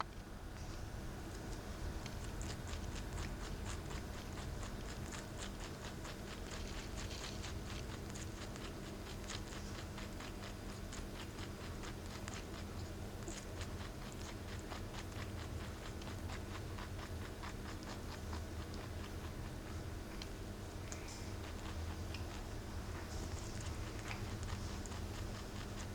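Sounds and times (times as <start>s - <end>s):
rabbit chewing: 0.0s - 25.9s.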